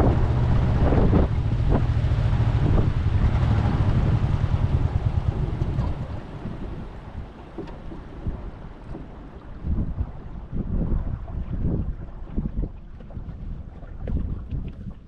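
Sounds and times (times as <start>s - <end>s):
boat engine humming: 0.0s - 15.0s
wind buffeting microphone: 0.0s - 15.0s.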